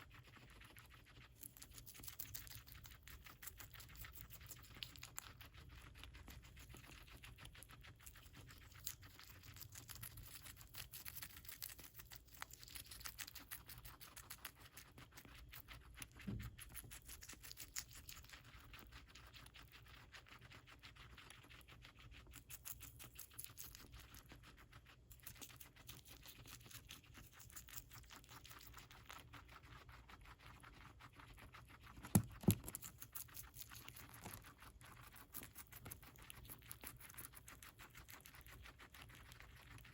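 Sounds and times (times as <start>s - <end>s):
guinea pig chewing lettuce: 0.0s - 39.9s.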